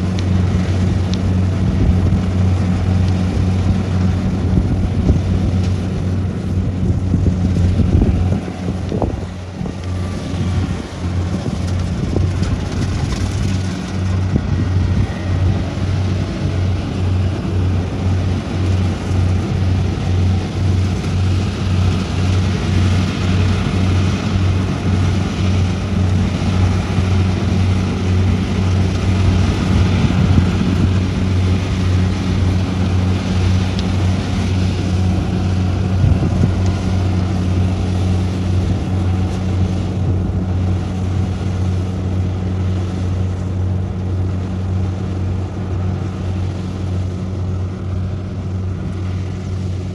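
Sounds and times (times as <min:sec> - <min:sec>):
combine harvester engine drone: 0:00.0 - 0:49.9.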